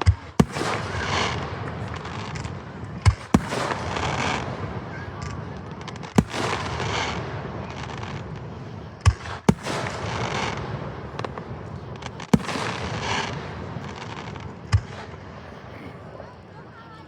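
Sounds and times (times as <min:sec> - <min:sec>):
loud firework shell bangs: 0:00.0 - 0:15.5
firework crackling and pops: 0:00.0 - 0:17.0.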